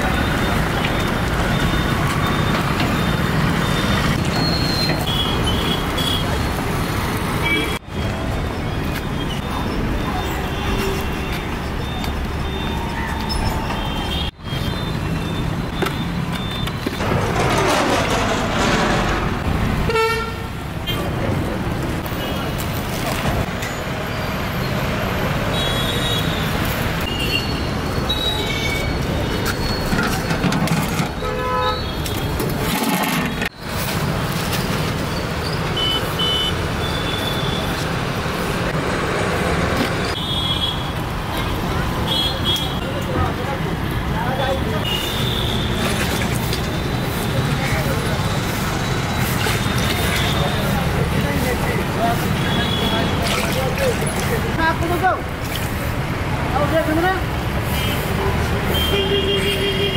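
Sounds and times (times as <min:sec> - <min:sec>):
traffic low rumble: 0:00.0 - 0:25.6, 0:36.5 - 0:59.0.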